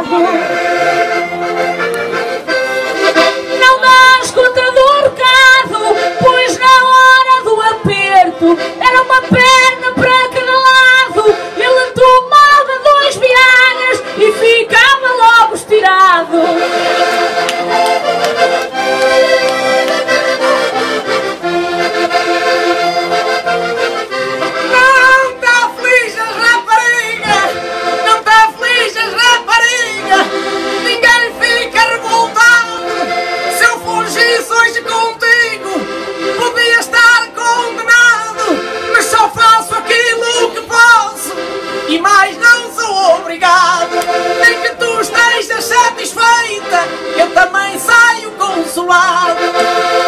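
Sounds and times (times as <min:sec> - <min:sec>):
accordions playing lively tune: 0:00.0 - 0:50.0.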